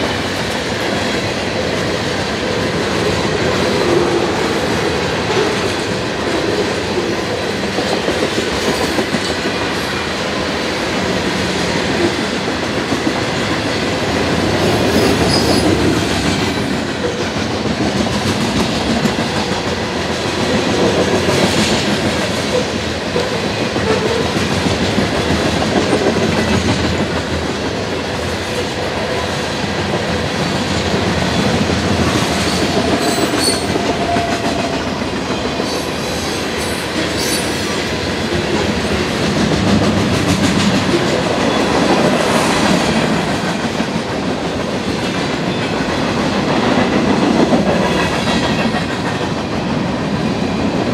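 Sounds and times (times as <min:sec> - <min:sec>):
steel wheels running on rails: 0:00.0 - 0:50.9.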